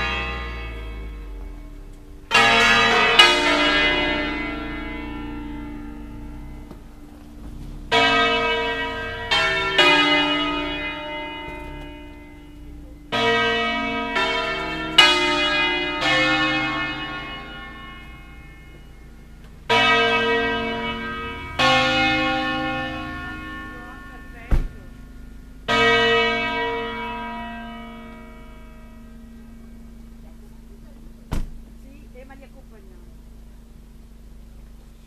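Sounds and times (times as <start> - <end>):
church bells ringing: 0.0 - 34.6.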